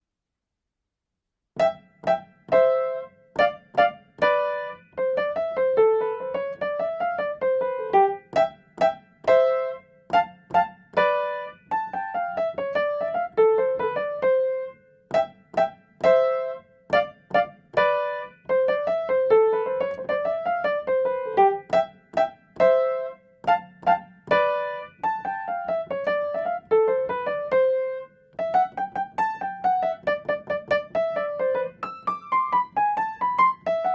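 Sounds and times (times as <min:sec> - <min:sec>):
electric piano playing: 0:01.6 - 0:33.9.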